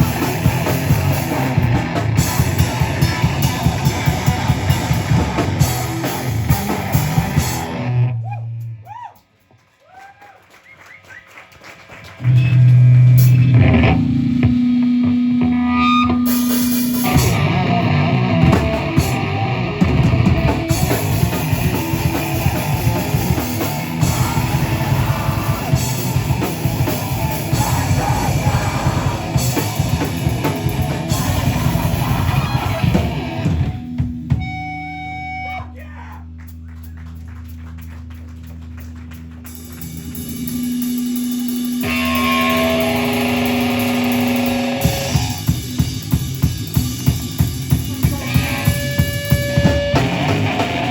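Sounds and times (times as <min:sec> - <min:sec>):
drum kit: 0:00.0 - 0:08.1, 0:12.0 - 0:50.9
distorted electric guitars: 0:00.0 - 0:08.8, 0:12.1 - 0:50.9
bass guitar: 0:00.0 - 0:09.1, 0:12.0 - 0:50.9.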